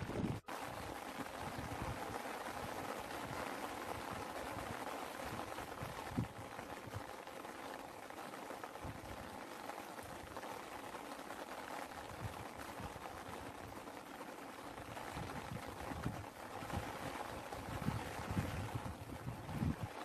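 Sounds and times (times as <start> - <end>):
large raindrops thudding: 0.0 - 20.0
steady rain: 0.0 - 20.0.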